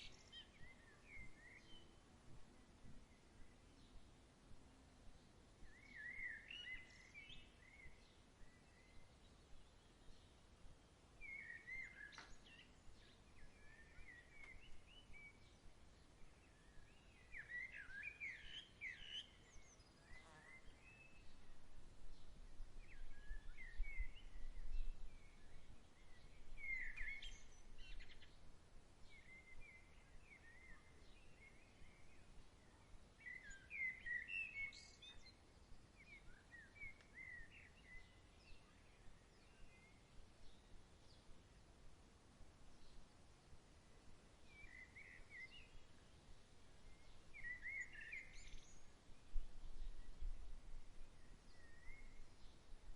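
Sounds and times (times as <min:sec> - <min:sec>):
faint songbird chirping: 0:00.0 - 0:52.9
soft outdoor hiss: 0:00.0 - 0:52.9.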